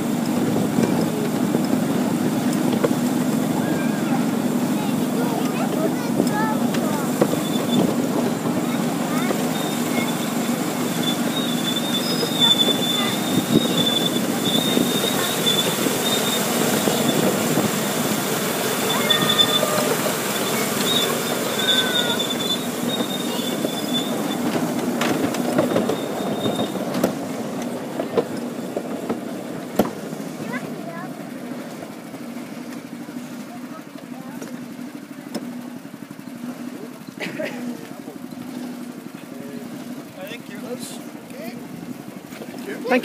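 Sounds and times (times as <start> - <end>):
train wheels rumbling on rail: 0.0 - 43.0
wheels squealing: 0.0 - 43.0.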